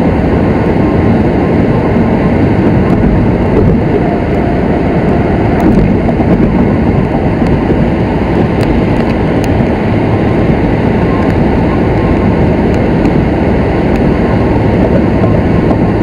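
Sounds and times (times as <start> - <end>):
loud steady rumbling noise: 0.0 - 16.0.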